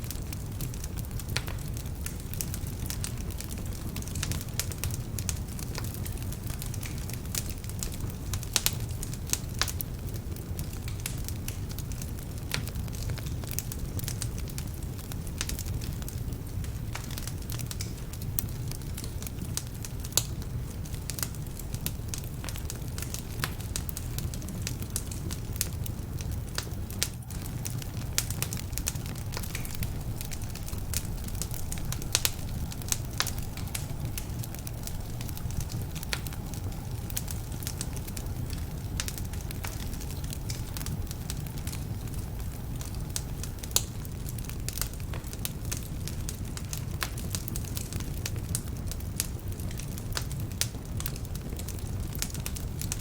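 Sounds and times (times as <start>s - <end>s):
fire flame rumble: 0.0s - 53.0s
logs crackling and popping: 0.0s - 53.0s.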